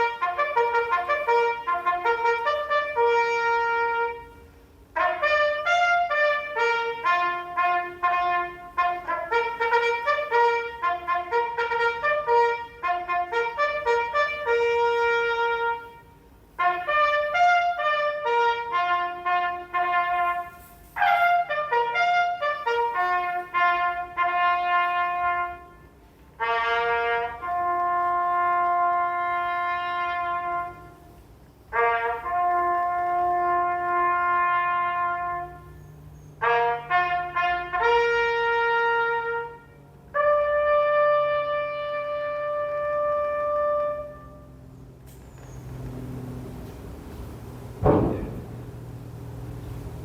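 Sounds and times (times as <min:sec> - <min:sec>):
solo bugle call: 0:00.0 - 0:50.0.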